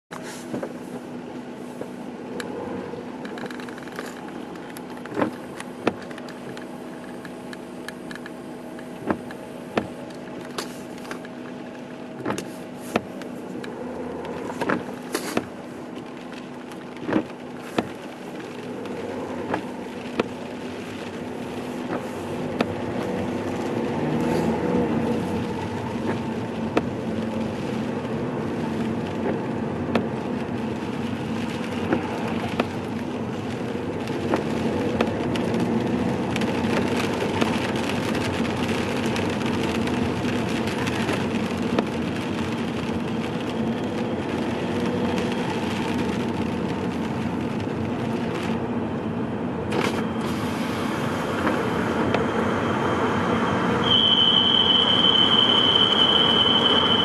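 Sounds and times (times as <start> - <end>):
car engine humming: 0.1 - 57.0.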